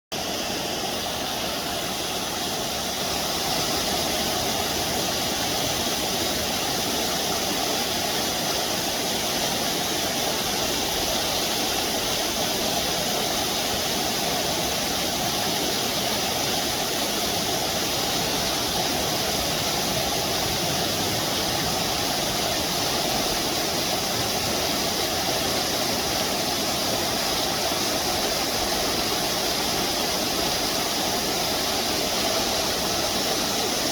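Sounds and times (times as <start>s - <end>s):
waterfall roaring: 0.2s - 33.9s.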